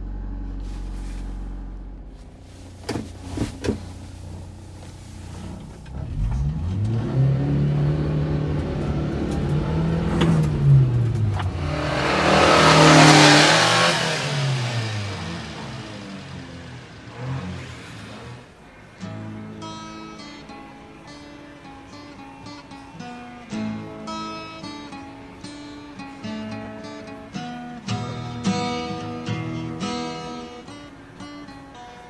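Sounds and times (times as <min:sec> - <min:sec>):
truck engine accelerating: 0:00.0 - 0:32.0.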